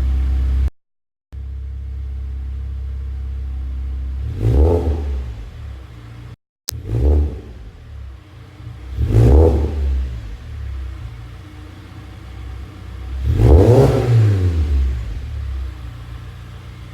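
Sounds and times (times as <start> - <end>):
car engine revving from idle: 2.2 - 16.9.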